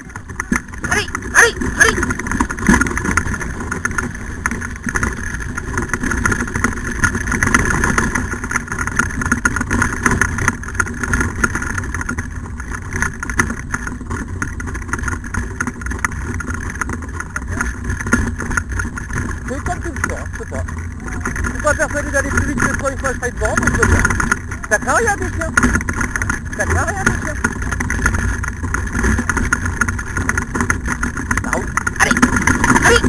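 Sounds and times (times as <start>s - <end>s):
cart rolling on dirt trail: 0.0s - 33.0s
rattling frame and wheels: 0.0s - 33.0s.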